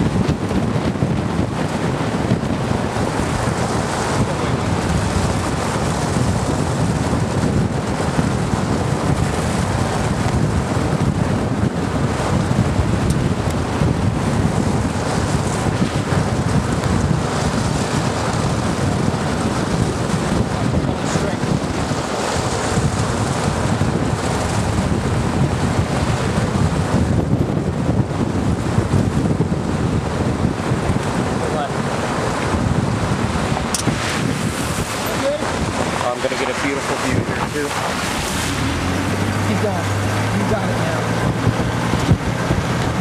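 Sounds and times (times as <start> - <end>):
car driving on wet road: 0.0 - 43.0
wind buffeting microphone: 0.0 - 43.0.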